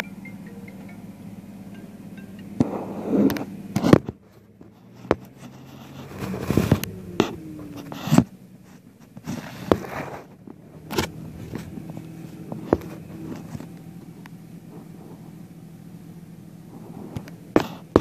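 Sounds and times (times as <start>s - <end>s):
steady low hum: 0.0s - 18.0s
knocks clicks and scraping rubs: 1.7s - 15.5s, 16.6s - 18.0s.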